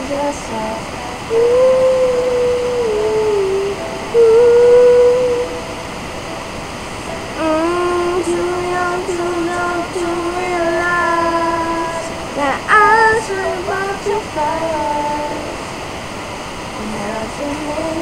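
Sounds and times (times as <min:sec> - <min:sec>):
person singing unaccompanied: 0:00.0 - 0:05.8, 0:07.0 - 0:15.8, 0:16.7 - 0:18.0
background hiss: 0:00.0 - 0:18.0.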